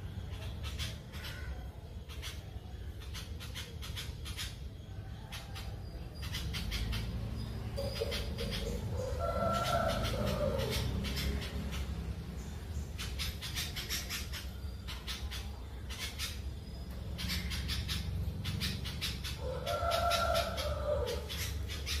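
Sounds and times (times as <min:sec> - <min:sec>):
small bird chirping rapidly: 0:00.0 - 0:22.0.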